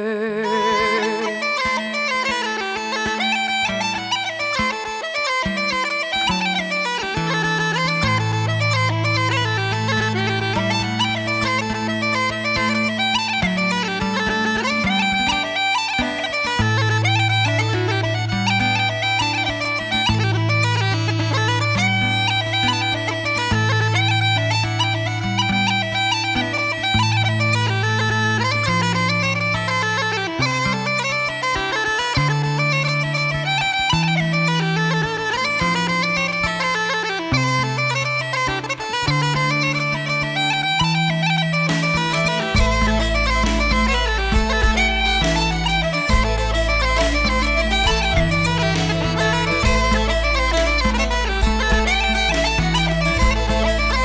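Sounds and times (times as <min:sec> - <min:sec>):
uilleann pipes playing a tune: 0:00.0 - 0:54.0.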